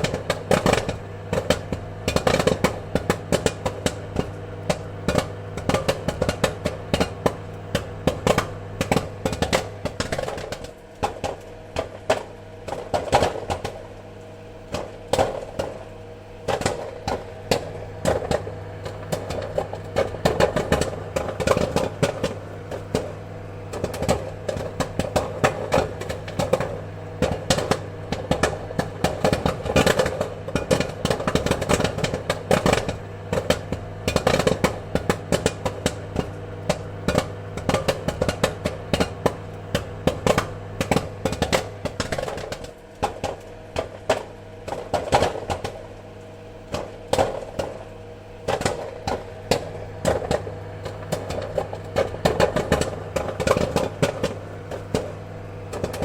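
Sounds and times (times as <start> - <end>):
popcorn kernels popping: 0.0 - 56.0
steady low hum: 0.0 - 56.0.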